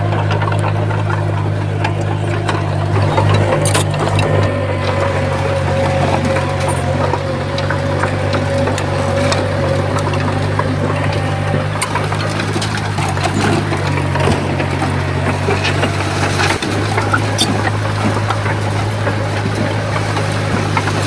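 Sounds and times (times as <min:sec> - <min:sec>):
bulldozer diesel engine droning: 0:00.0 - 0:21.0
tracks crunching soil: 0:00.0 - 0:21.0.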